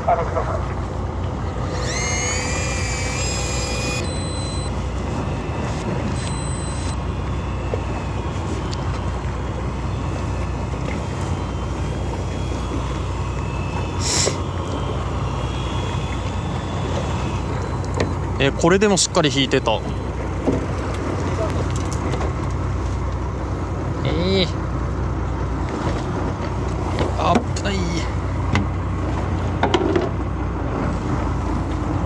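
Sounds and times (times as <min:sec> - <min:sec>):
high rising whine: 0:00.0 - 0:28.5
boat engine running: 0:00.0 - 0:32.0
wind and water noise: 0:00.0 - 0:32.0.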